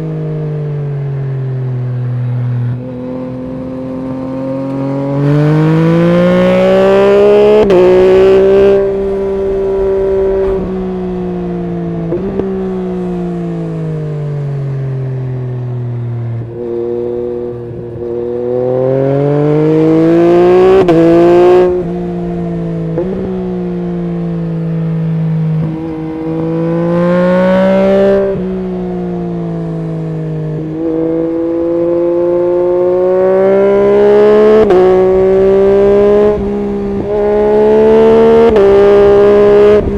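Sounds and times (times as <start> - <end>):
motorcycle engine revving: 0.9 - 39.9.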